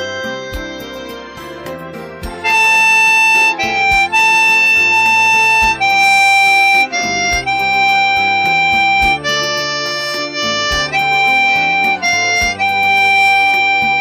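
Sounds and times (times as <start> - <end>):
backing music with bass: 0.0 - 14.0
harmonica melody: 0.0 - 14.0.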